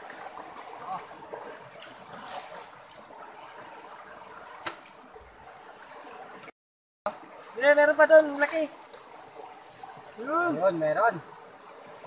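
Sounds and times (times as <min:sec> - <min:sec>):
stream trickling over rocks: 0:00.0 - 0:06.5, 0:07.1 - 0:12.0.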